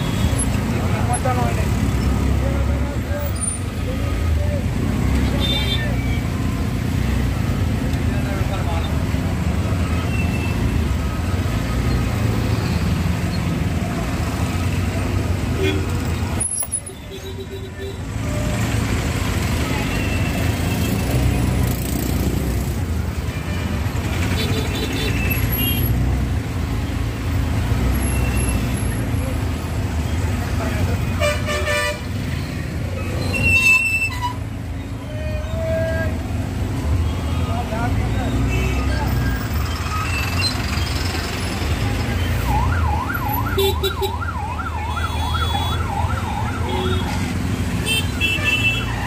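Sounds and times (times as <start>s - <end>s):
road traffic engine rumble: 0.0s - 49.0s.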